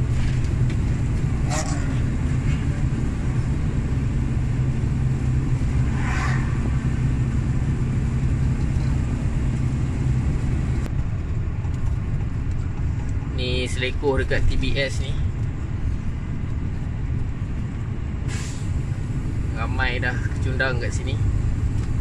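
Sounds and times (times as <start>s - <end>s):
diesel truck engine drone: 0.0s - 22.0s
tyre and road noise: 0.0s - 22.0s.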